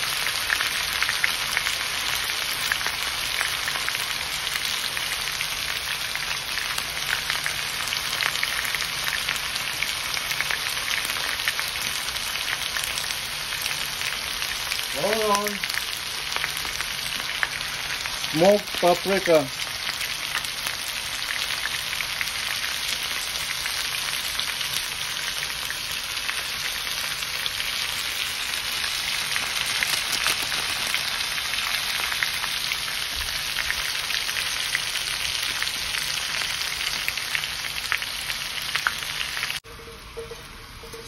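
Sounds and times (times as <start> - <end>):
potatoes sizzling in oil: 0.0 - 41.0.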